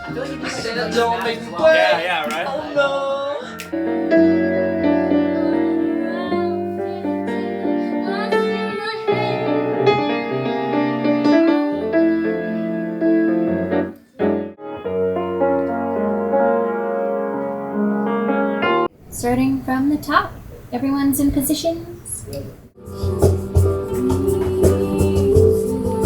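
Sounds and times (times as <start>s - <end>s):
instrumental keyboard music: 0.0s - 18.9s, 22.8s - 26.0s.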